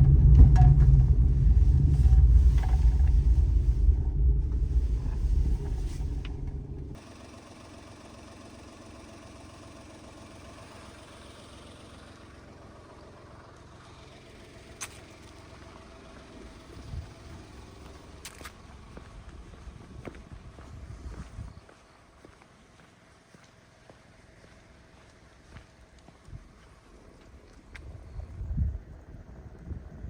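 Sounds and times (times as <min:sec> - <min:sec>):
car driving rumble: 0:00.0 - 0:30.0.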